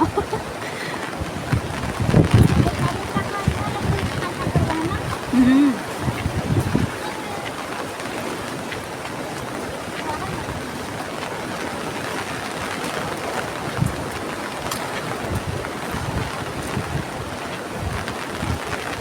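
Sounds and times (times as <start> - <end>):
river rushing: 0.0 - 19.0
wind buffeting microphone: 0.0 - 19.0.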